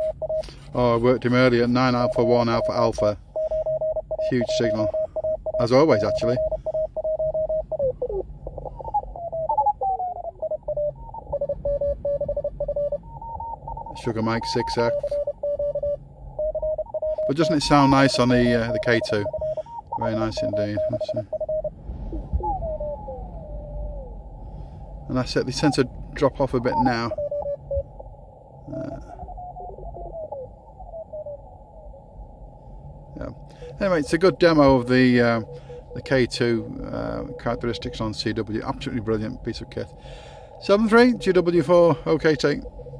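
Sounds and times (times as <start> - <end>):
morse code tones: 0.0 - 32.1, 33.1 - 42.9
faint radio hiss: 0.0 - 42.9.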